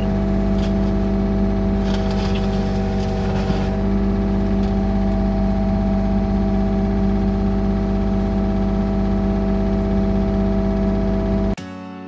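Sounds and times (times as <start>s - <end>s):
diesel engine running steadily: 0.0s - 11.6s.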